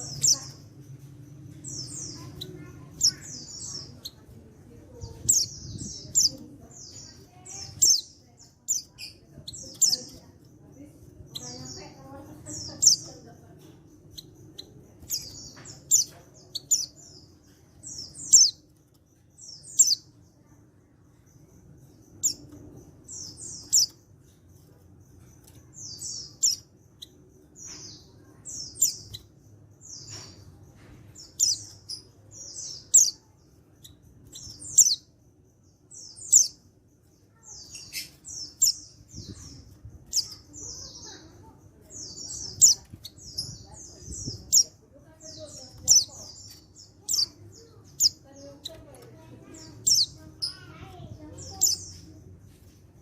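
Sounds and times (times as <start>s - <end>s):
bird high chirping calls: 0.0s - 52.7s.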